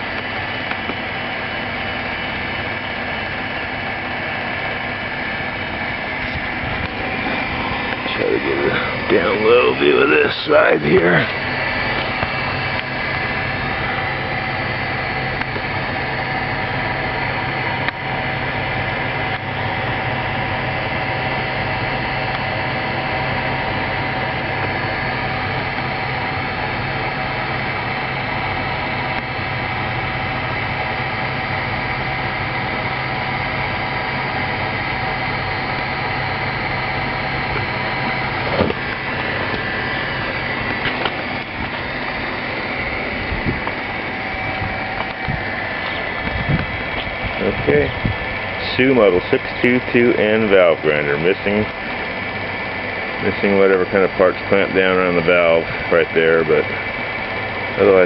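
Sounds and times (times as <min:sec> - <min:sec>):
electric motor humming: 0:00.0 - 0:58.0.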